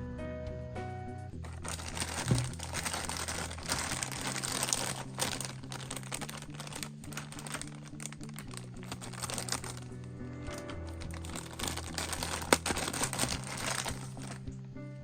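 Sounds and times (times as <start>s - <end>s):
background music: 0.0s - 15.0s
plastic packaging crinkling: 1.4s - 14.4s.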